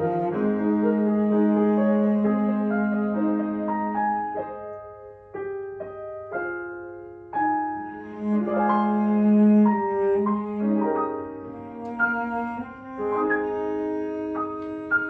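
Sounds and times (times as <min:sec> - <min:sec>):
piano notes: 0:00.0 - 0:15.0.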